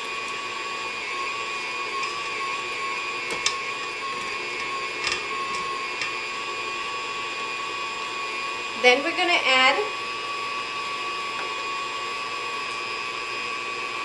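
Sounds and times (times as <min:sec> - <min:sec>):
stand mixer motor whining: 0:00.0 - 0:14.0.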